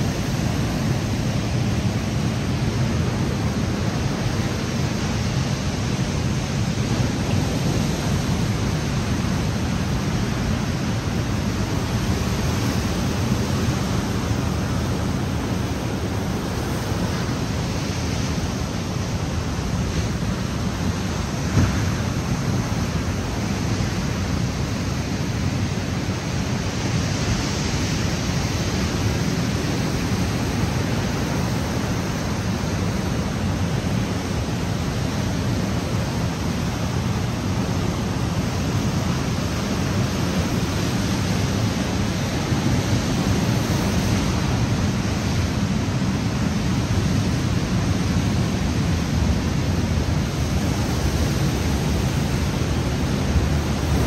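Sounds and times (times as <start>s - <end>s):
ocean surf: 0.0s - 54.0s
wind: 0.0s - 54.0s.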